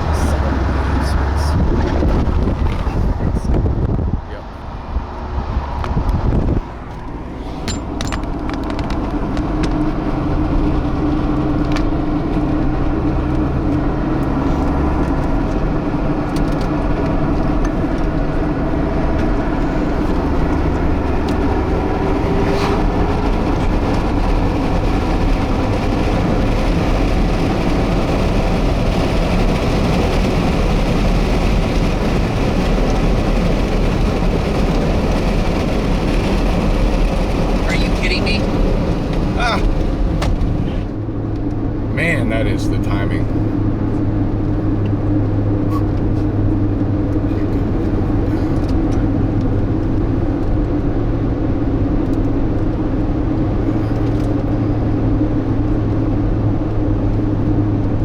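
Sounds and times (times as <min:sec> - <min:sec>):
car engine: 0:00.0 - 0:58.0
tyre road noise: 0:00.0 - 0:58.0.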